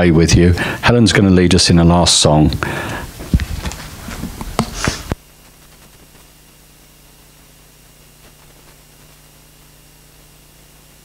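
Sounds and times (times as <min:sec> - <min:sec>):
faint electrical hum: 0:00.0 - 0:11.0
low hiss: 0:00.0 - 0:11.0.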